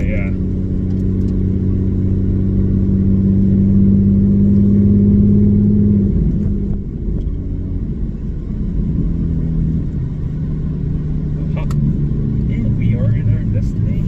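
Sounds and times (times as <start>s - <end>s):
car exhaust droning: 0.0s - 14.0s.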